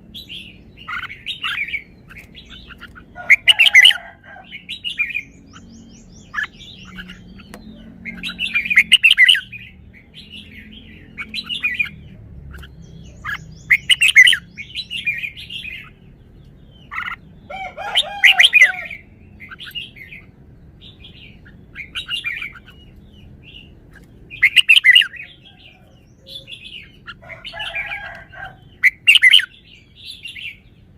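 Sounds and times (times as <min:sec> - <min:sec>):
bird warbling song: 0:00.0 - 0:30.9
soft bird chirps: 0:00.0 - 0:30.9.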